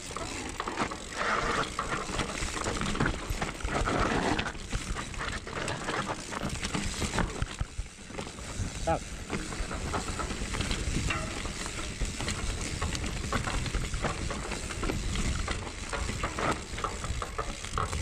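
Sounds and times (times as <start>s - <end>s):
bicycle tyre noise: 0.0s - 18.0s
bike rattling over stones: 0.0s - 18.0s.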